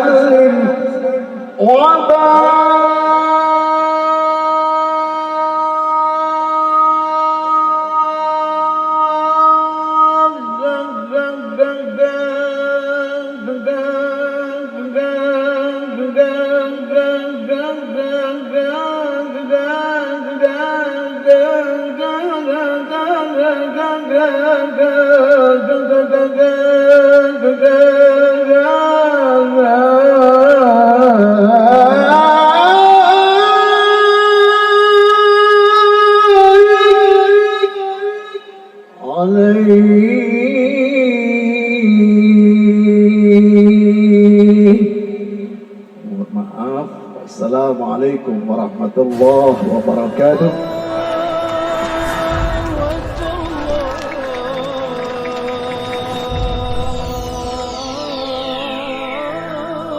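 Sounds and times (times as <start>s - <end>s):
man singing: 0.0s - 46.4s, 49.0s - 59.9s.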